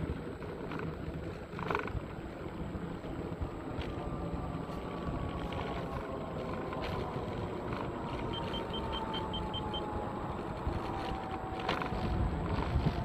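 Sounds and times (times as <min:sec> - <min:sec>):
thin motor whine: 0:00.0 - 0:13.0
wind rushing over microphone: 0:00.0 - 0:13.0.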